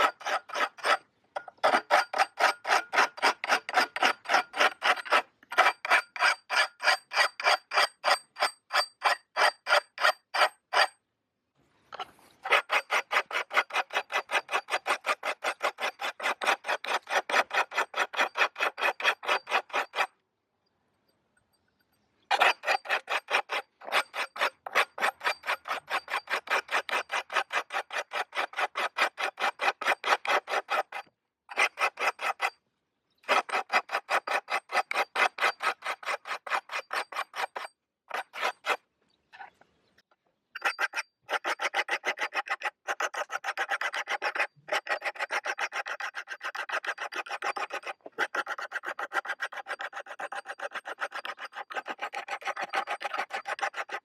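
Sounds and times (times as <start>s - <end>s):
hand file strokes: 0.0s - 11.0s, 11.9s - 20.2s, 22.3s - 32.6s, 33.2s - 38.8s, 40.6s - 54.0s.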